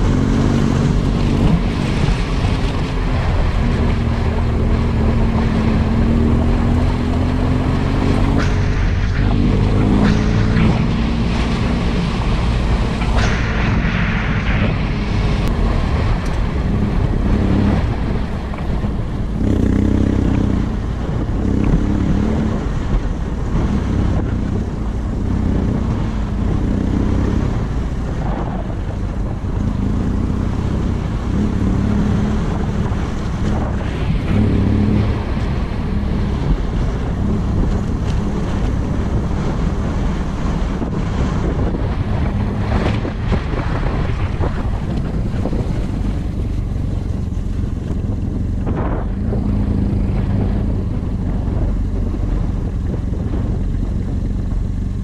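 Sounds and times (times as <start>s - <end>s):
motorcycle engine running: 0.0s - 55.0s
wind buffeting on microphone: 0.0s - 55.0s.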